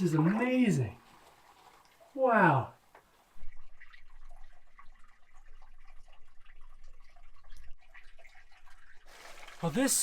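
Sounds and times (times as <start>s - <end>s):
water dripping into a pool: 0.0s - 10.0s.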